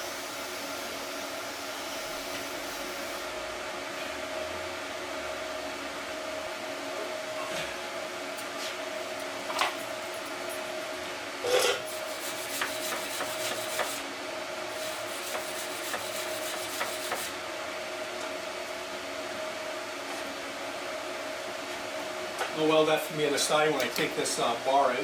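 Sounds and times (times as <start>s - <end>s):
welder electrical hum: 0.0s - 25.0s.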